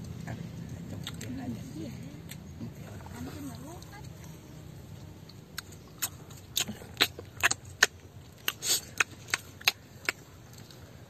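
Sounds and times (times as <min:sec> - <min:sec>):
crunchy fruit being chewed: 0:00.0 - 0:11.0.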